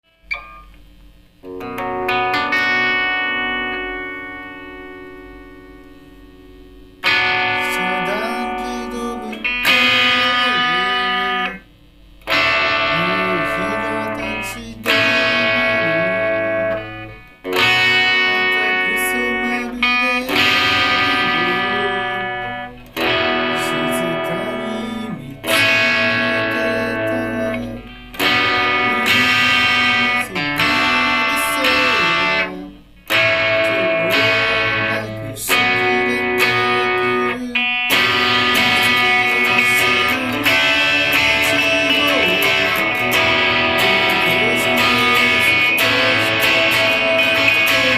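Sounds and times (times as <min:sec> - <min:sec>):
guitar chords ringing: 0:00.0 - 0:47.9
guitar strumming: 0:00.0 - 0:47.9
person singing: 0:07.0 - 0:11.6, 0:12.3 - 0:16.9, 0:17.5 - 0:47.9.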